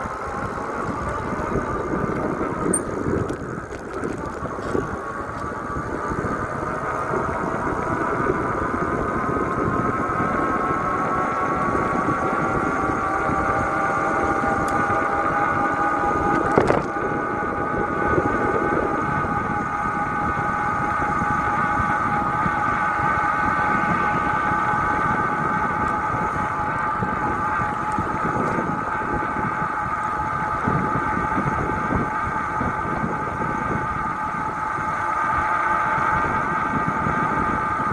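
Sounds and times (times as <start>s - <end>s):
motorcycle engine running: 0.0s - 37.9s
wind rush on microphone: 0.0s - 37.9s.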